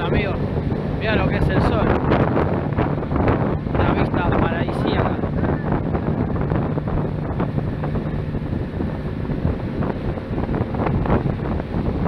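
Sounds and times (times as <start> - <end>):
motorboat engine droning: 0.0 - 12.0
wind buffeting microphone: 0.0 - 12.0.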